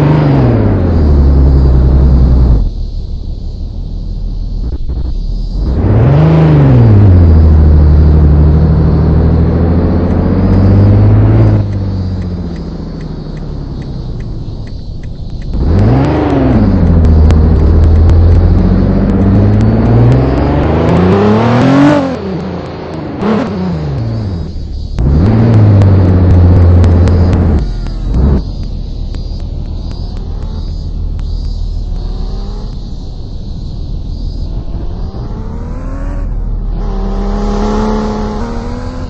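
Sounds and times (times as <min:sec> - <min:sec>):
vehicle engine revving: 0:00.0 - 0:39.0.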